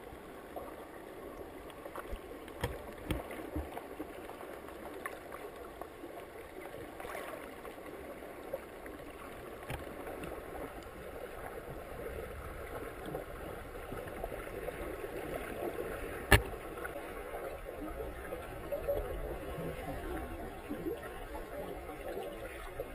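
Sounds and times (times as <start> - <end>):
muffled underwater water hiss: 0.0 - 22.9.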